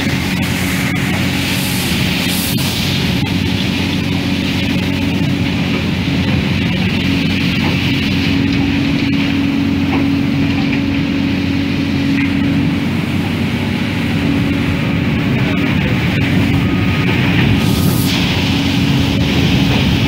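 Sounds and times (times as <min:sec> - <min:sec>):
constant hum: 0:00.0 - 0:20.0
hydraulic brush cleaner sweeping: 0:00.0 - 0:20.0.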